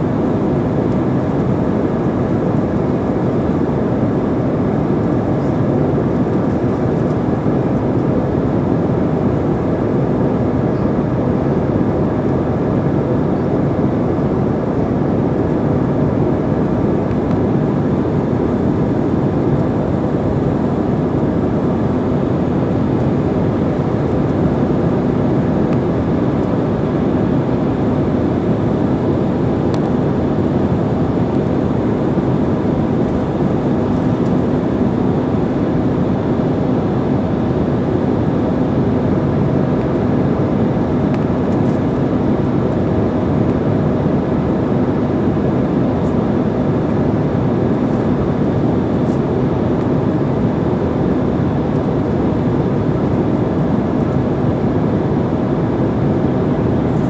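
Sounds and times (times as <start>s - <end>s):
airliner cabin engine and airflow noise: 0.0s - 57.0s
faint constant hum: 0.0s - 57.0s.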